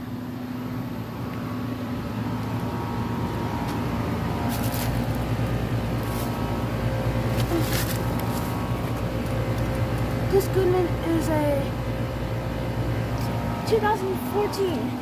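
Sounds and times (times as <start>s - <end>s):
air conditioner hum and fan: 0.0s - 15.0s.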